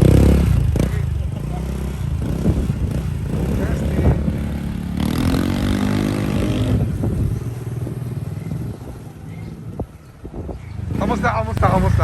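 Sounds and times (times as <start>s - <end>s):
scooter engine revving: 0.0s - 9.9s, 10.6s - 12.0s.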